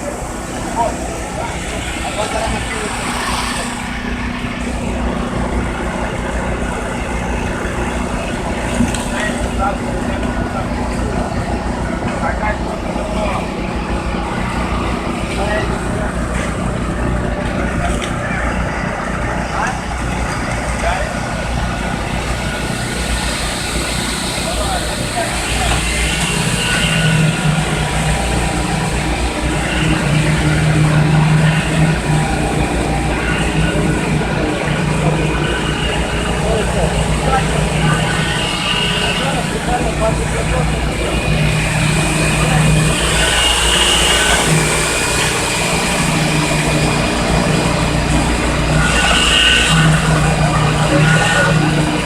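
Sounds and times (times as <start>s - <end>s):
heavy machinery engine drone: 0.0s - 52.0s.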